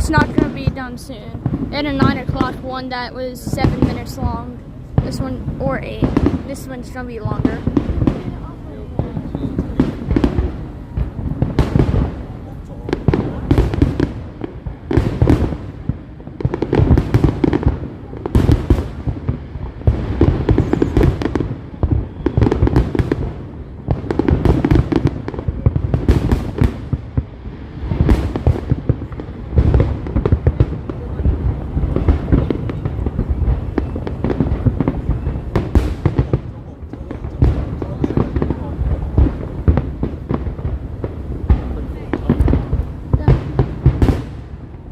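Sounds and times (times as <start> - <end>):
fireworks booms and cracks: 0.0 - 44.9.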